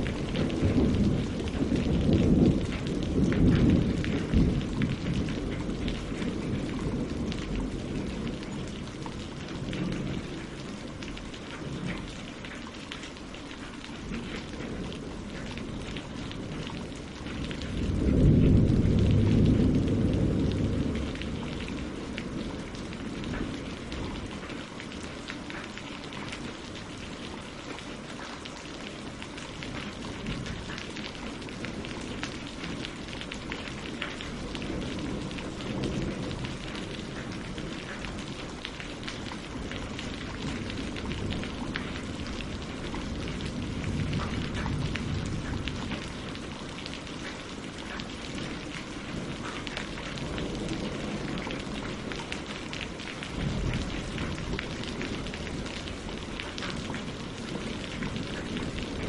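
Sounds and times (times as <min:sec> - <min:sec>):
rain on leaves and water: 0:00.0 - 0:59.0.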